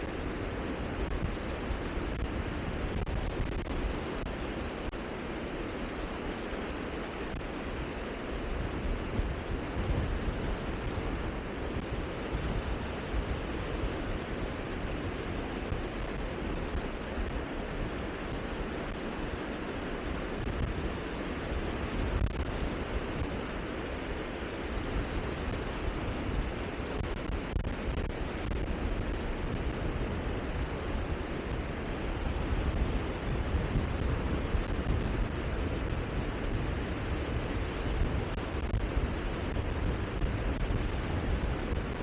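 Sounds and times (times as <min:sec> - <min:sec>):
wind buffeting microphone: 0:00.0 - 0:06.2, 0:07.1 - 0:42.0.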